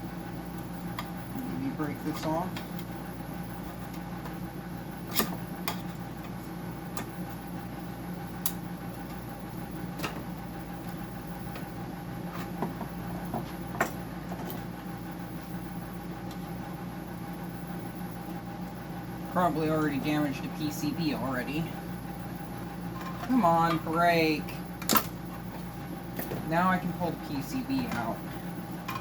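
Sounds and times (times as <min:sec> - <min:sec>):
steady machine hum: 0:00.0 - 0:29.0.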